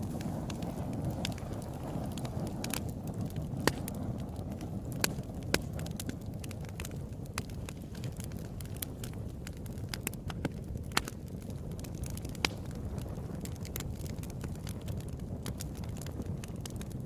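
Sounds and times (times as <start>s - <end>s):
campfire rumble: 0.0s - 17.0s
wood crackling and popping: 0.0s - 17.0s.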